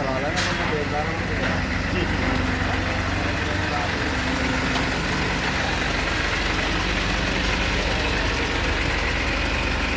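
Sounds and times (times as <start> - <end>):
truck diesel engine idling: 0.0 - 9.9.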